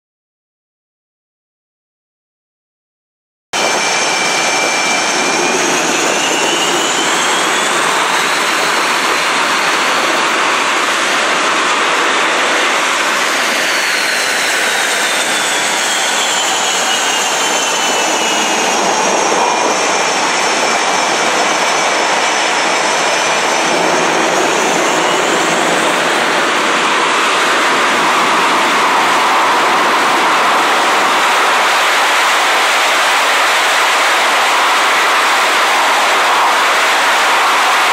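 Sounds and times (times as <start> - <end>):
jet engines running: 3.6 - 37.9.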